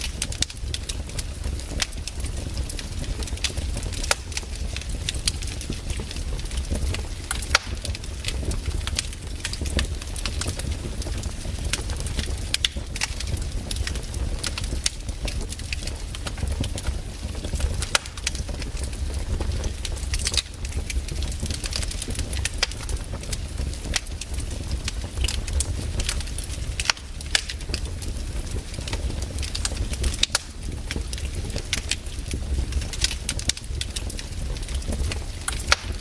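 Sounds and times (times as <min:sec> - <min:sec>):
campfire crackling and popping: 0:00.0 - 0:36.0
low fire rumble: 0:00.0 - 0:36.0.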